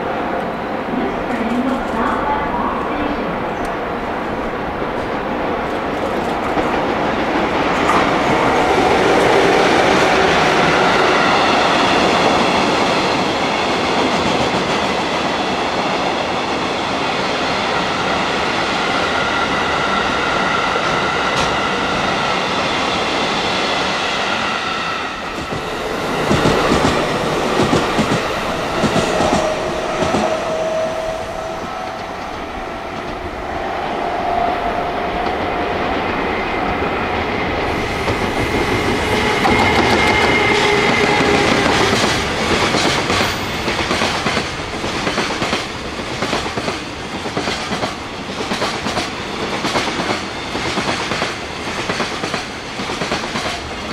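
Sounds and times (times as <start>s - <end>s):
train wheels rumbling and clattering: 3.5s - 53.9s.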